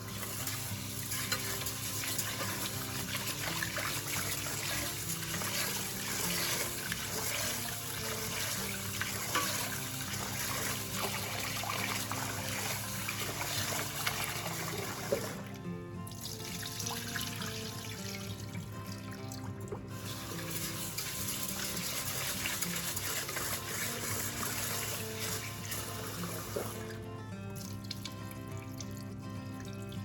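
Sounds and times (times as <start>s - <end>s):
tap water running into sink: 0.0s - 27.0s
background music: 0.0s - 30.0s.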